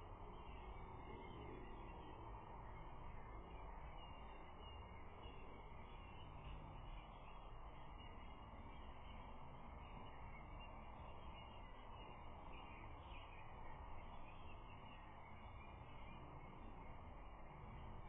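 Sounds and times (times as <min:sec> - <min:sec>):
distant bird calls: 0:00.0 - 0:18.0
faint outdoor background noise: 0:00.0 - 0:18.0.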